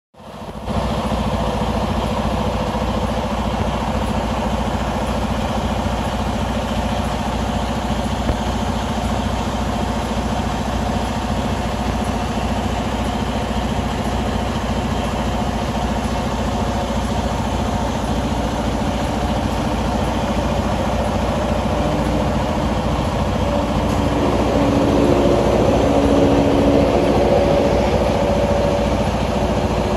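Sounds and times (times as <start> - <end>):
diesel truck engine idling: 0.2 - 29.9
higher engine tone: 0.4 - 29.9.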